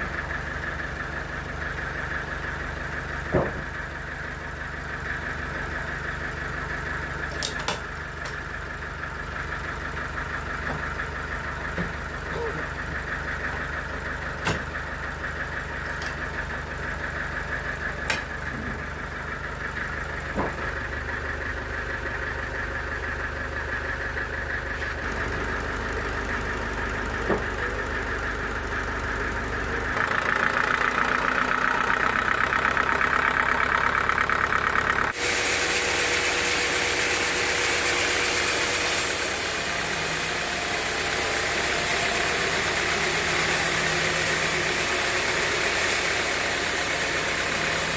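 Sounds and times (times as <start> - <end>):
sawmill machinery running: 0.0 - 47.9.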